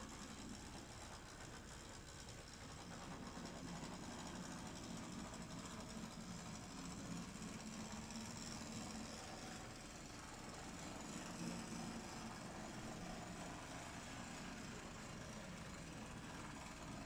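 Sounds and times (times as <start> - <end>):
model locomotive motor whirring: 0.0 - 17.0.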